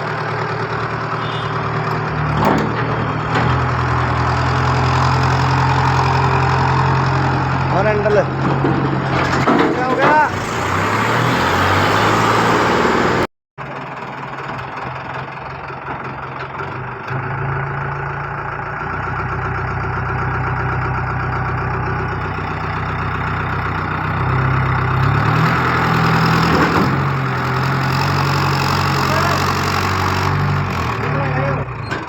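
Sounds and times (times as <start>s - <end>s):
vehicle engine running: 0.0s - 9.0s, 12.8s - 31.9s.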